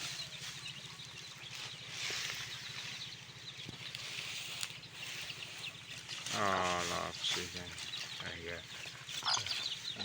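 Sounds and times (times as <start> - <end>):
chicks cheeping: 0.0 - 10.0
low fluttering hum: 0.0 - 10.0.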